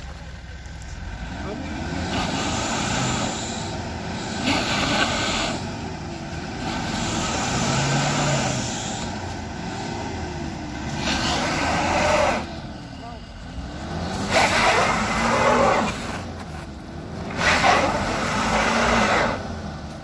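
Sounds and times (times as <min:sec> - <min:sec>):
off-road vehicle engine: 0:00.0 - 0:20.0
road noise: 0:00.0 - 0:20.0.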